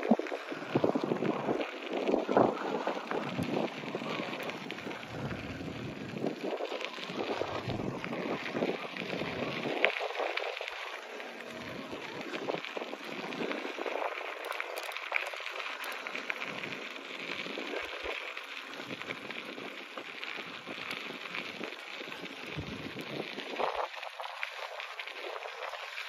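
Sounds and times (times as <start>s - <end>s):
bicycle tyres on gravel: 0.0s - 26.0s
wind on microphone: 0.0s - 26.0s.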